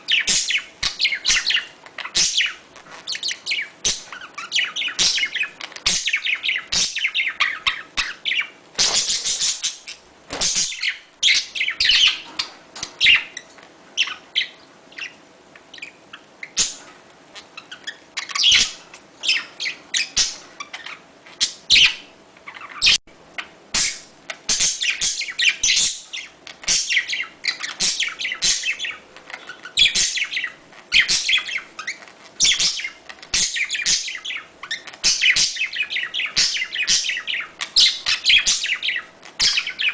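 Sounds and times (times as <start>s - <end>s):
budgerigars chattering and warbling: 0.1s - 39.9s.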